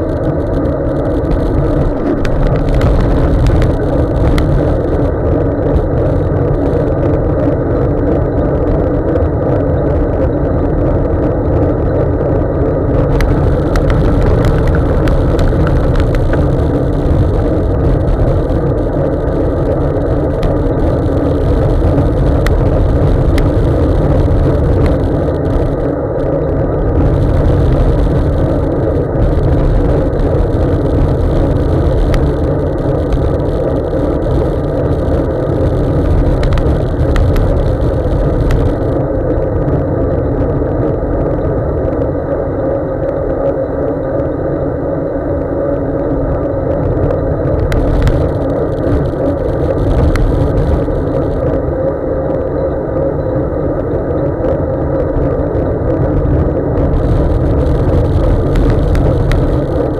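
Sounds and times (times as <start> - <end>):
bike tyre rumble on wet road: 0.0 - 43.6, 45.5 - 52.5, 53.7 - 59.9
wind on microphone: 0.0 - 59.9.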